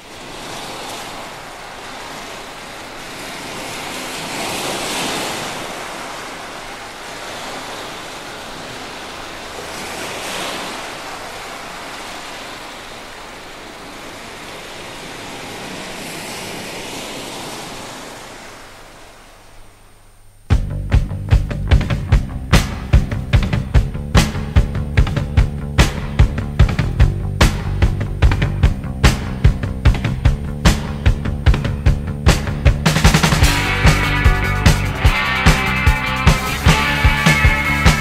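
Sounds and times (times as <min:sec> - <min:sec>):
sea surf washing in: 0:00.0 - 0:20.5, 0:21.9 - 0:38.0.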